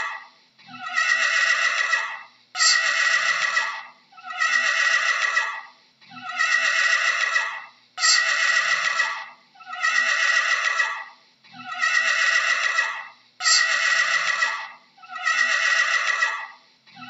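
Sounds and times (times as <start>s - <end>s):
horse whinnying: 0.8s - 5.6s, 6.2s - 16.5s.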